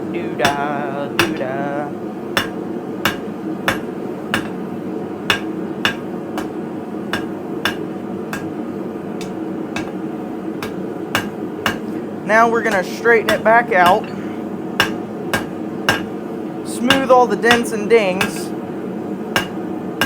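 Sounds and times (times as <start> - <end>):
low background hum: 0.0 - 20.0
hammer striking steel on anvil: 0.4 - 1.4, 2.4 - 12.0, 12.6 - 14.2, 14.8 - 18.6, 19.3 - 19.7.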